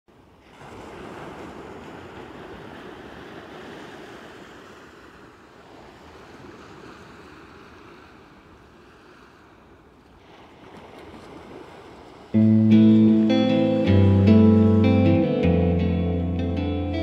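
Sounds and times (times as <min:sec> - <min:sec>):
waves breaking: 0:00.1 - 0:17.0.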